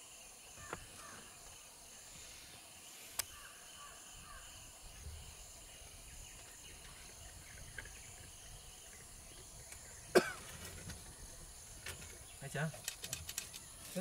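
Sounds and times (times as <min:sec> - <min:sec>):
faint bird chirps: 0:00.0 - 0:12.7
insects droning: 0:00.0 - 0:14.0.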